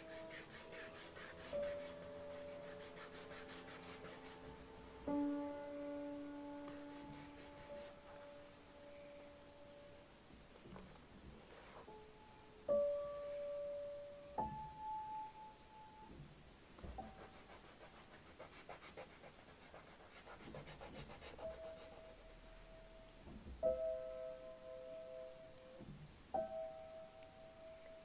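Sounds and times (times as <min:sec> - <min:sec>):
soft slow piano music: 0:00.0 - 0:28.0.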